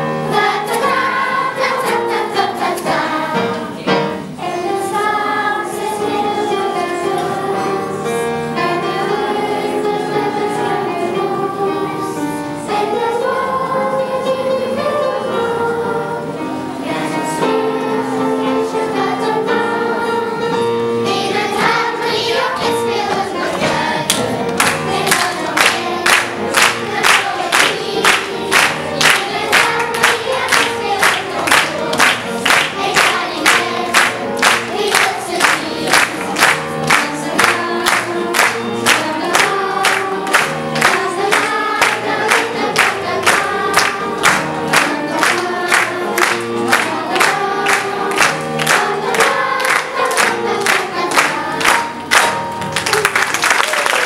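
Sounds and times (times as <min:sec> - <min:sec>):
children's choir singing: 0:00.0 - 0:53.4
instrumental accompaniment: 0:00.0 - 0:53.4.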